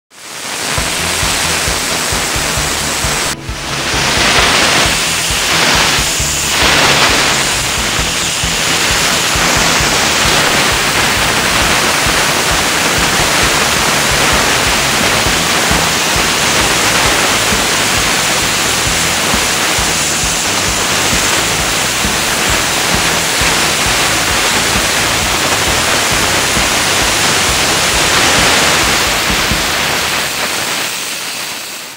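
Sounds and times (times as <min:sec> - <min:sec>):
pressure washer spray hissing: 0:00.1 - 0:31.9.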